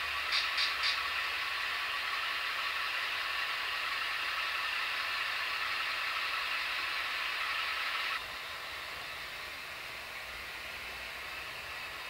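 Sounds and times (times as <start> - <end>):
model locomotive engine sound: 0.0 - 12.0.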